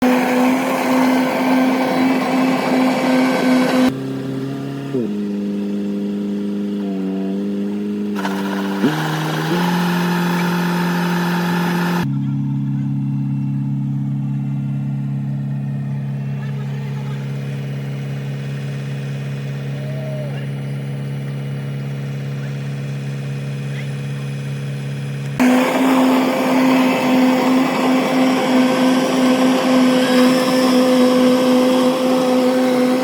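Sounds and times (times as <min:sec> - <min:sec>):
harvesting machine engine running: 0:00.0 - 0:33.0.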